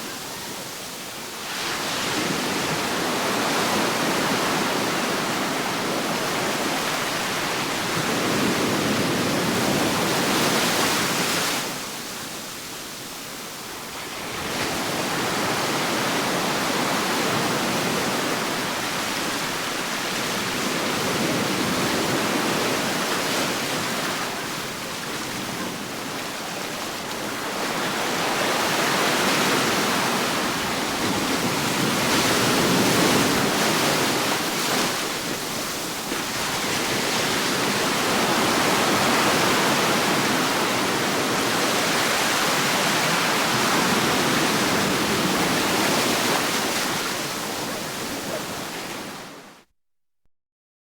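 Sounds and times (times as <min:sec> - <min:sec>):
ocean waves washing ashore: 0:00.0 - 0:49.6.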